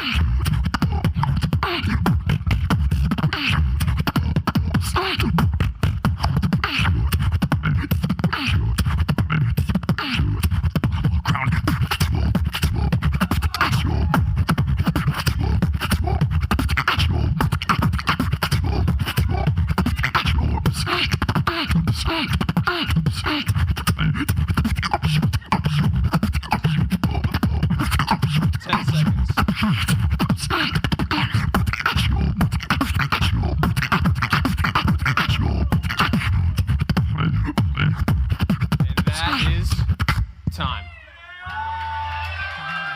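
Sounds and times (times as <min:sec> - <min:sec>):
vocal beatboxing: 0:00.0 - 0:40.6.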